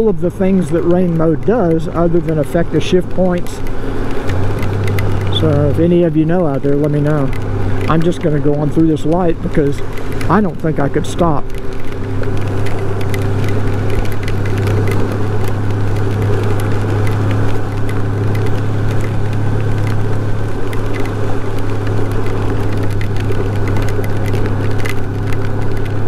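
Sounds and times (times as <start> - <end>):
motorcycle engine cruising: 0.0 - 26.0
wet road noise: 0.0 - 26.0.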